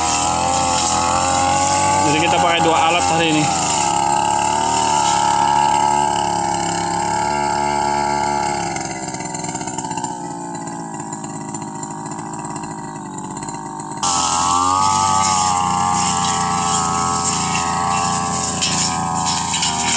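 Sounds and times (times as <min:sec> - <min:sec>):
brush cutter engine running: 0:00.0 - 0:19.9.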